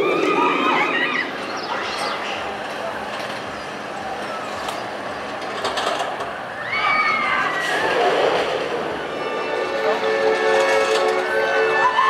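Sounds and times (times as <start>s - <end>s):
theme park background noise: 0.0s - 12.0s.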